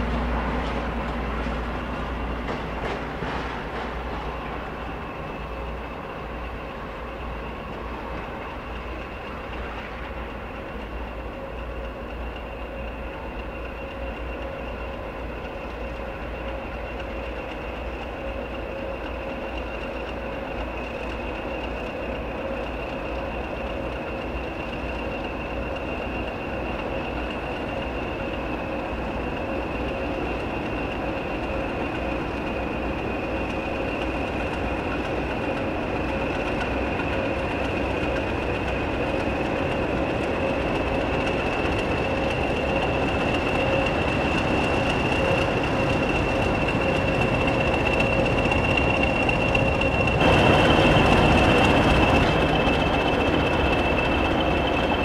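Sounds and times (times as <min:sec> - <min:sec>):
diesel train rumble: 0:00.0 - 0:55.0
high steady whine: 0:04.4 - 0:55.0.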